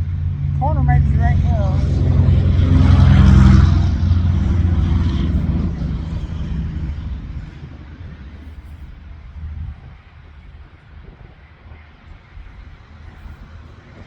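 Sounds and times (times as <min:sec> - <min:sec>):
passing vehicle engine drone: 0:00.0 - 0:14.0.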